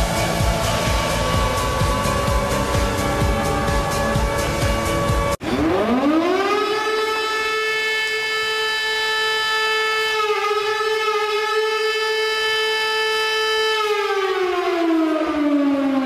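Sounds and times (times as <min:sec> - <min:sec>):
goal horn siren: 0:00.0 - 0:16.0.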